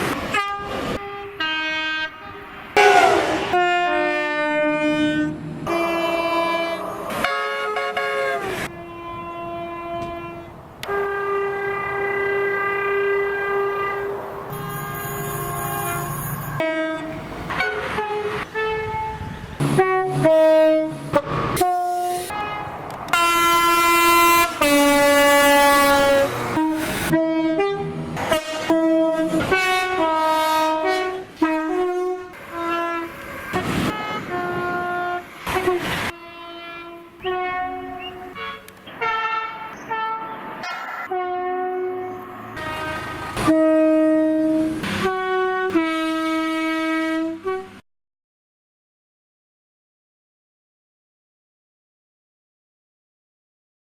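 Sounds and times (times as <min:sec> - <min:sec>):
passing trains rumbling: 0:00.0 - 0:47.8
train horn blasts: 0:00.2 - 0:40.4, 0:41.0 - 0:47.8.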